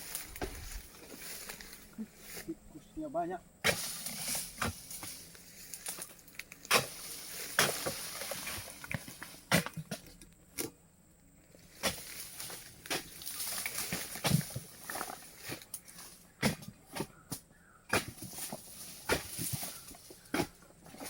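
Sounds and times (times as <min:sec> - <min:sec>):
palm fronds rustling: 0:00.0 - 0:10.7, 0:11.5 - 0:17.3, 0:17.9 - 0:21.0.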